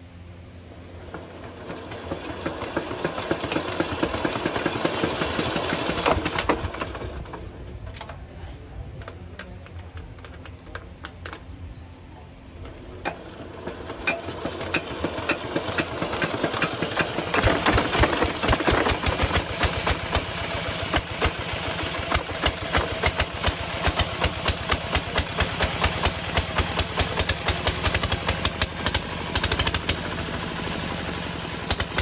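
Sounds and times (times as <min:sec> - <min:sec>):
diesel engine clattering: 0:00.6 - 0:32.0
engine knocks: 0:00.8 - 0:08.2, 0:12.6 - 0:32.0.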